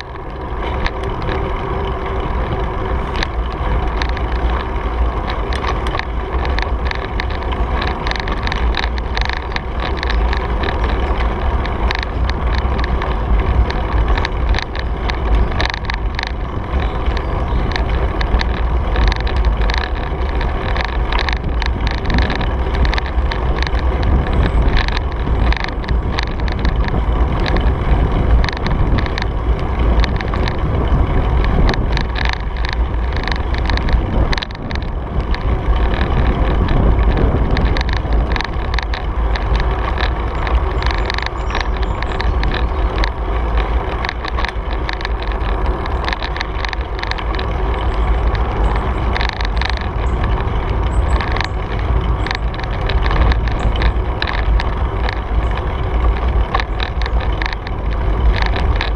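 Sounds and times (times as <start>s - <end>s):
bike clicks and rattles: 0.0s - 58.9s
tyre noise on pavement: 0.0s - 58.9s
wind buffeting microphone: 0.0s - 58.9s.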